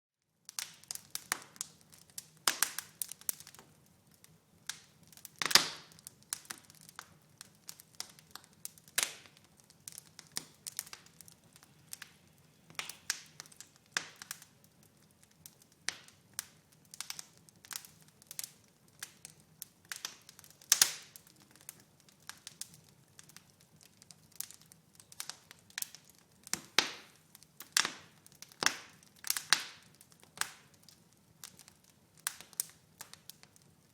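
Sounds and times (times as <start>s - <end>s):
wood fire crackling and popping: 0.4s - 33.9s.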